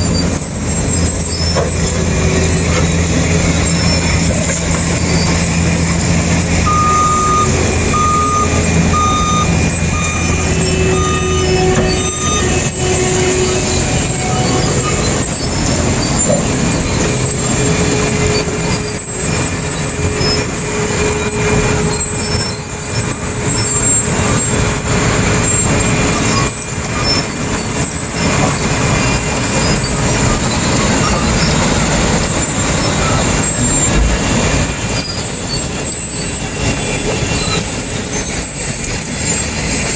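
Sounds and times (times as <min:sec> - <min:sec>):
heavy machinery running: 0:00.0 - 0:39.9
reversing alarm beeping: 0:00.0 - 0:39.9
thin high machine whine: 0:00.0 - 0:39.9.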